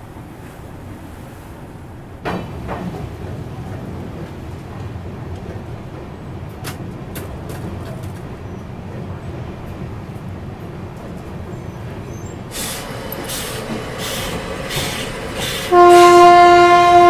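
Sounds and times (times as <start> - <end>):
train rumbling on steel bridge: 0.0 - 17.0.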